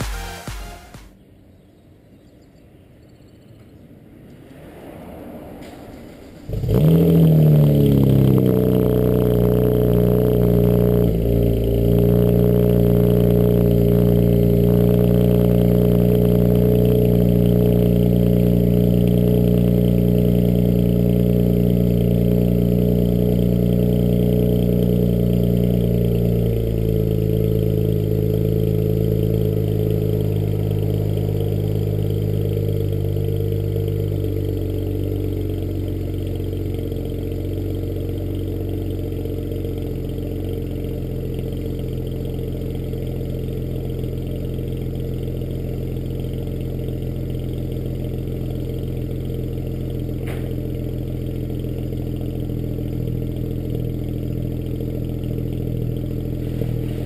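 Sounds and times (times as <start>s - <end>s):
car engine idling: 4.5s - 57.0s.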